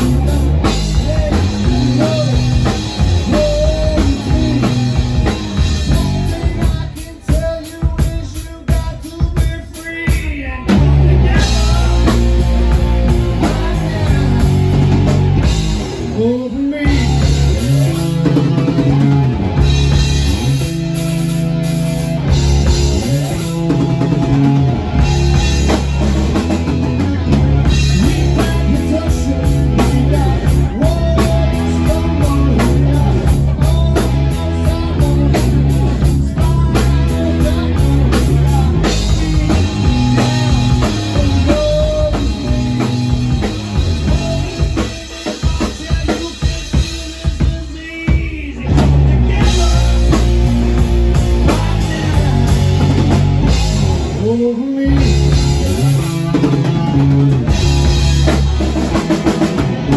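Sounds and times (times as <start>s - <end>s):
man singing: 0.0s - 21.6s, 22.2s - 59.9s
drum kit: 0.0s - 59.9s
electric guitar: 0.0s - 59.9s.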